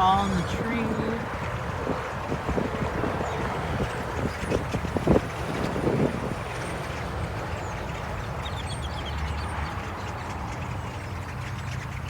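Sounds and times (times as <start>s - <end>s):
blackbird flock chattering: 0.0s - 12.0s
vehicle low rumble: 0.0s - 12.0s.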